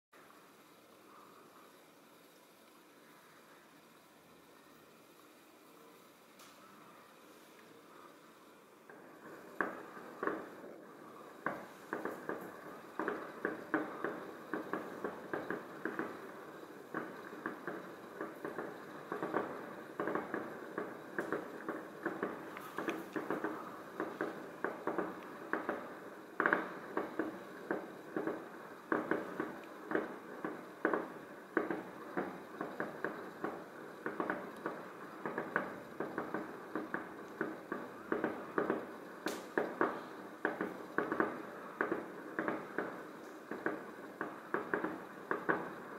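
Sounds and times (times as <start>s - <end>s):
distant fireworks popping and banging: 0.2s - 45.9s.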